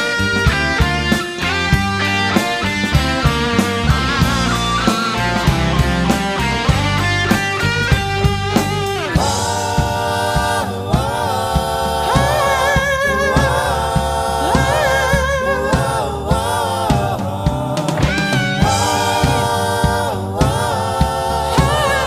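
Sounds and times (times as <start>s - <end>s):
pop song with vocals: 0.0s - 22.0s.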